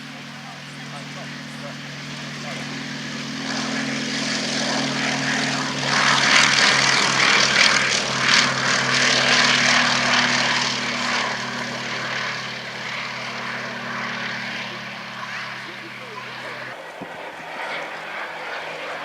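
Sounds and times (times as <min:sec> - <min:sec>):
propeller aircraft passing: 0:00.0 - 0:19.0.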